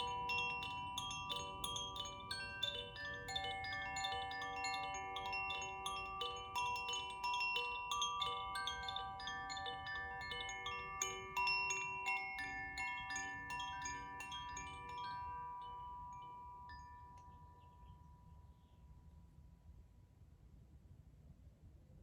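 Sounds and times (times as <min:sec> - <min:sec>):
wind chime tinkling: 0:00.0 - 0:19.0.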